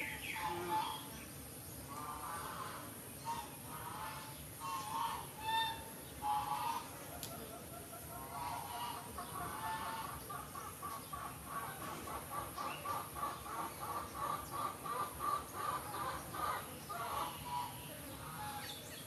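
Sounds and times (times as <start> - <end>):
bird clucking call: 2.1 - 18.7.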